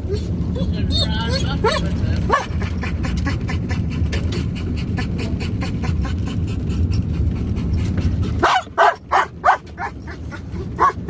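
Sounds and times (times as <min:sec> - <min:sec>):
vehicle cabin rumble: 0:00.0 - 0:11.0.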